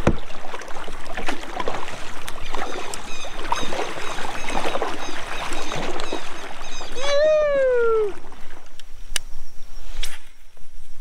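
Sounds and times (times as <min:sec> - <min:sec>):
paddle splashing in water: 0:00.0 - 0:09.0
water washing along hull: 0:00.0 - 0:09.1.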